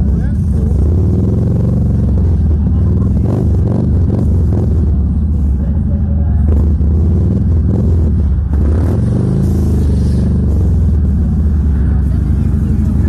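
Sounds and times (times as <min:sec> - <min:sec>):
loud engine rumble: 0:00.0 - 0:13.0.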